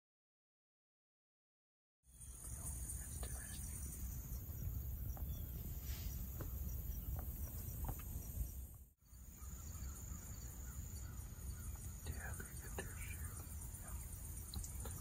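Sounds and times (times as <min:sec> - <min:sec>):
high-pitched insect chorus: 0:02.1 - 0:15.0.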